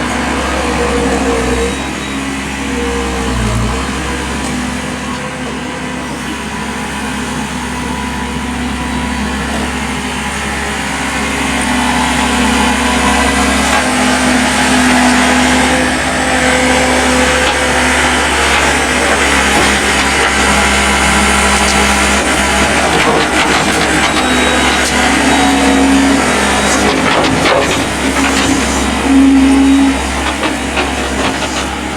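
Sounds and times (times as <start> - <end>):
heavy machine engine running: 0.0 - 31.9.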